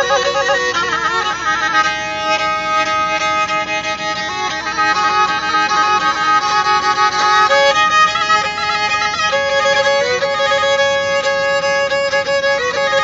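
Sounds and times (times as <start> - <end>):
bowed string melody: 0.0 - 13.0.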